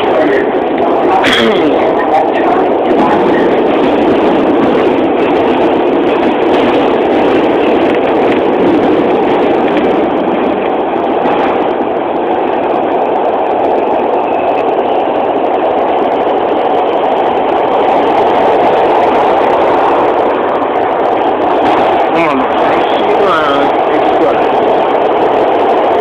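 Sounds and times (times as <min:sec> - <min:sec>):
subway car wheels rumbling on rails: 0:00.0 - 0:26.0.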